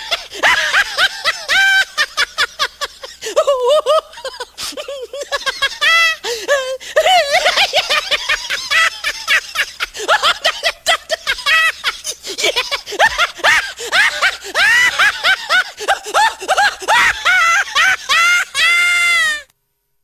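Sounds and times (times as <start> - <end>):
high-pitched giggling laughter: 0.0 - 19.4.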